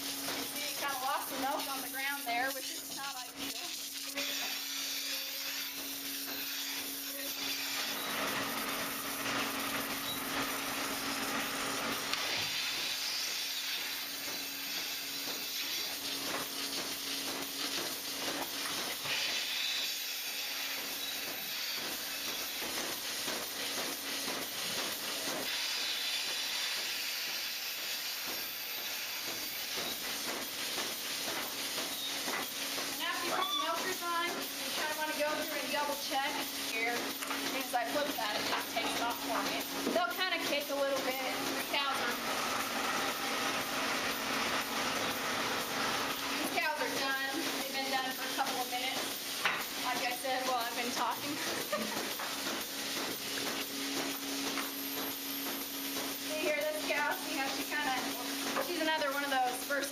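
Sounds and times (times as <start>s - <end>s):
air hissing at milking units: 0.0s - 59.9s.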